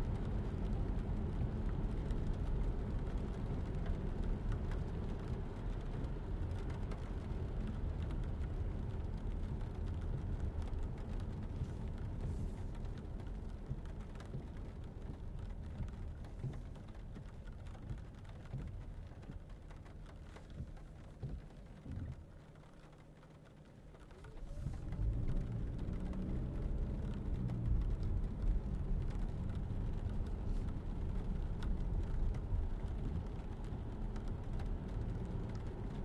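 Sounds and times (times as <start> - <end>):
rain ticking on glass: 0.0 - 36.0
tyre and road rumble: 6.4 - 36.0.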